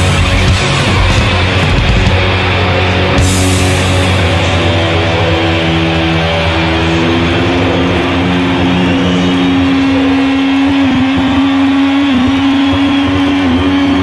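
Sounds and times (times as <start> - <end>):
live rock band music: 0.0 - 14.0
sustained electric guitar notes: 0.0 - 14.0.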